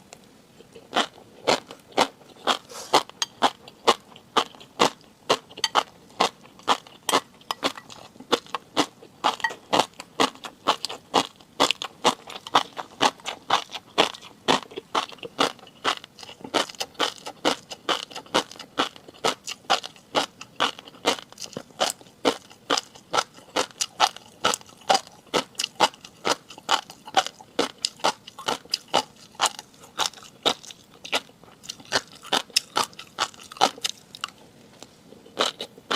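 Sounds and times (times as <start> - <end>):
crunchy chewing: 0.2 - 35.9.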